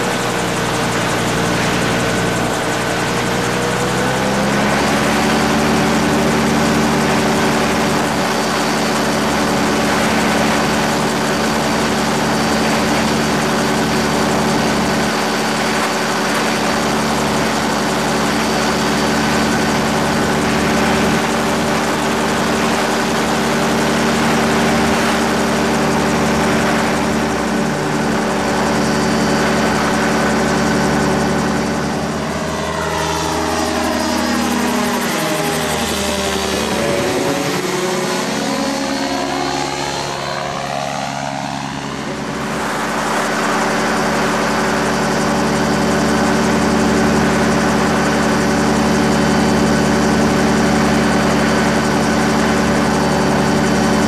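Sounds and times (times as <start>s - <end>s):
gyrocopter engine and propeller: 0.0s - 54.0s.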